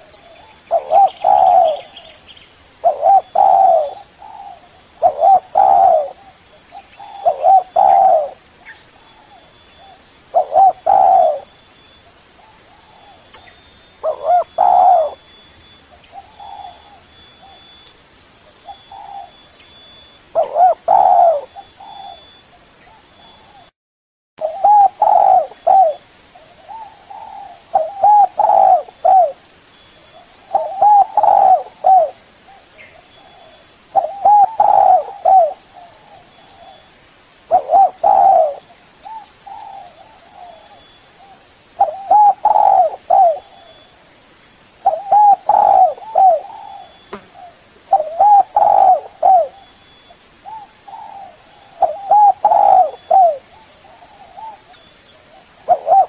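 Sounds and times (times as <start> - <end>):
dove cooing: 0.0 - 2.2, 2.8 - 11.6, 12.4 - 17.8, 18.5 - 19.4, 20.3 - 23.7, 24.4 - 29.4, 30.1 - 36.9, 37.5 - 43.9, 44.8 - 56.0
faint dove coos: 0.0 - 2.2, 2.8 - 11.6, 12.4 - 15.4, 16.0 - 17.8, 18.5 - 19.4, 20.3 - 23.7, 24.4 - 29.4, 30.1 - 36.9, 37.5 - 43.9, 44.8 - 56.0.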